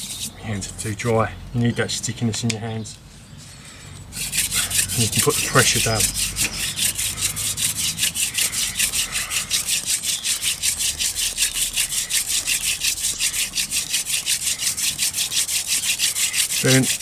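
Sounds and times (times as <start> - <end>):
wooden spindle rasping in hearth board: 0.0 - 1.1, 4.0 - 17.0.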